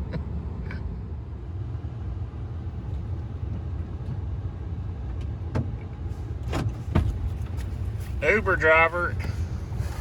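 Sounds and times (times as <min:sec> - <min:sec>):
car engine rumble from inside cabin: 0:00.0 - 0:10.0.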